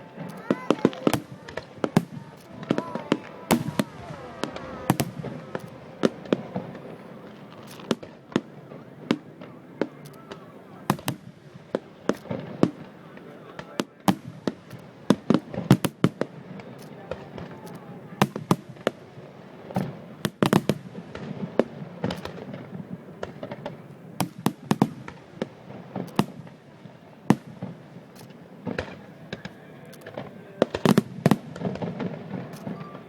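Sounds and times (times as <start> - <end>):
fireworks banging: 0.0 - 33.0.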